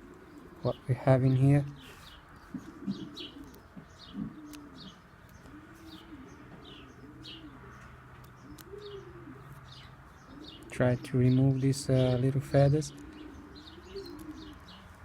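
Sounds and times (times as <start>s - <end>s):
pigeons cooing: 0.0s - 15.0s
small birds chirping: 0.0s - 15.0s.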